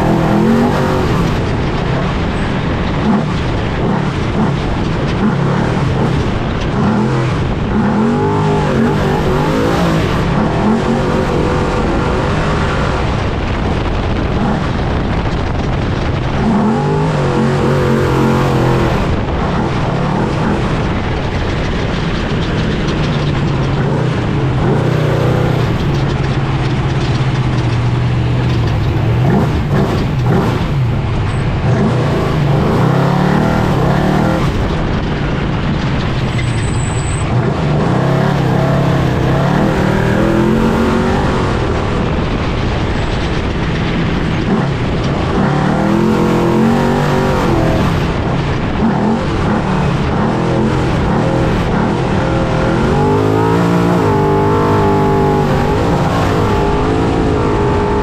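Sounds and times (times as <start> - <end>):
race engine revving: 0.0 - 58.0
tyre and chassis noise: 0.0 - 58.0.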